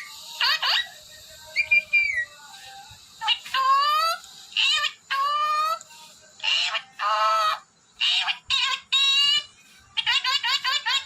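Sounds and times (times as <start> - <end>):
parrot talking: 0.0 - 2.2, 3.2 - 5.8, 6.4 - 11.0.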